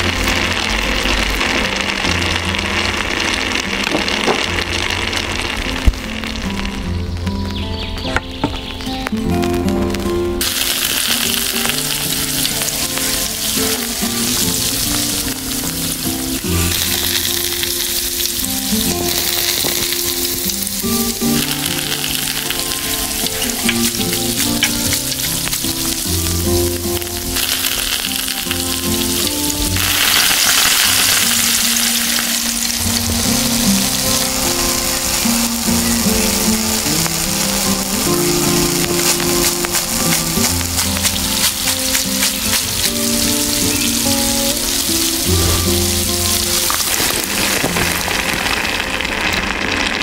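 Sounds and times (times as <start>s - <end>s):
food sizzling in hot oil: 0.0s - 6.8s, 9.4s - 50.0s
background music: 0.0s - 49.3s.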